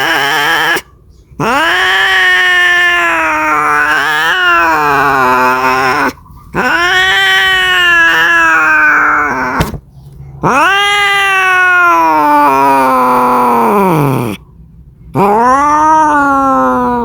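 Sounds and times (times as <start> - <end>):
cat yowling: 0.0 - 9.8, 10.4 - 14.4, 15.1 - 17.0.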